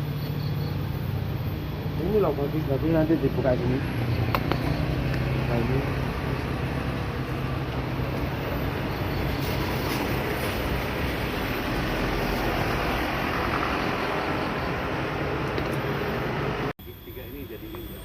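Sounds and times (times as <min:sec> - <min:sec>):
roadside traffic rumble: 0:00.0 - 0:18.0.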